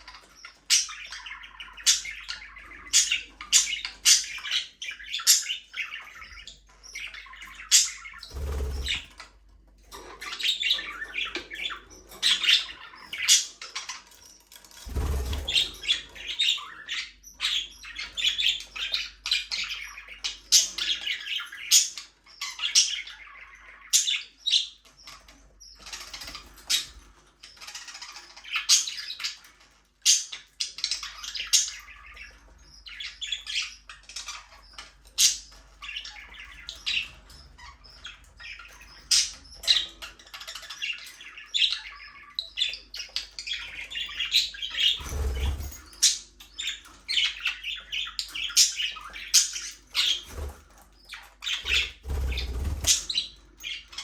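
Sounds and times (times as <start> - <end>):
budgerigars chattering: 0.0 - 9.3, 10.0 - 54.0.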